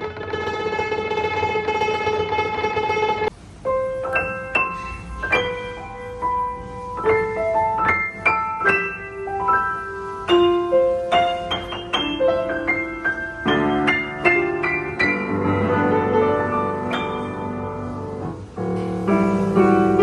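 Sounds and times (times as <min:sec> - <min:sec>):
upright piano playing: 0:00.0 - 0:20.0.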